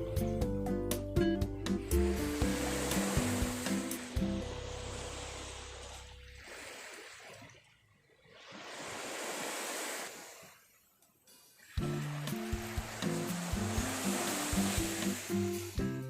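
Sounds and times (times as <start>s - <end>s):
sea waves washing ashore: 1.6s - 16.0s.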